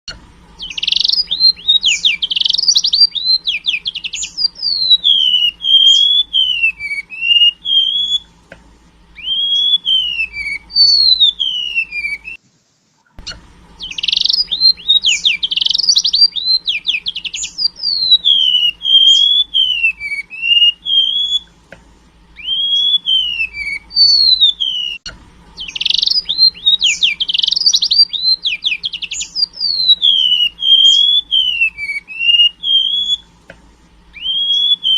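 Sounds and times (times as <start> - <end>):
bird singing trills and whistles: 0.6 - 8.4, 9.1 - 12.4, 13.2 - 21.5, 22.3 - 33.4, 34.1 - 34.9.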